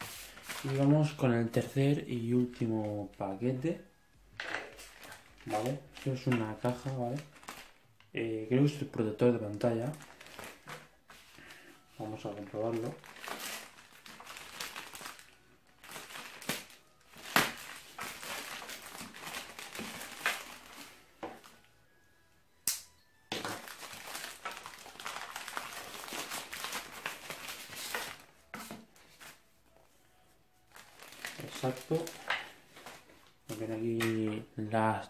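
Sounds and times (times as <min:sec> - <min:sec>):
plastic mailer crinkling and tearing: 0:00.0 - 0:03.6, 0:04.5 - 0:21.6, 0:23.3 - 0:29.4, 0:30.6 - 0:34.3.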